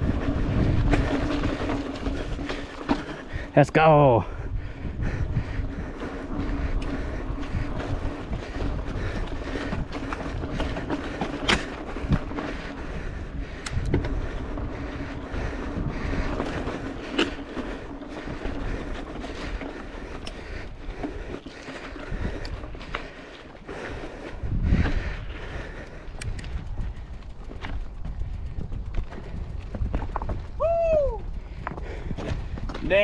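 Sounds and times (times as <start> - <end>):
bike rattling: 0.0 - 33.0
bike tyres crunching on dirt: 0.0 - 33.0.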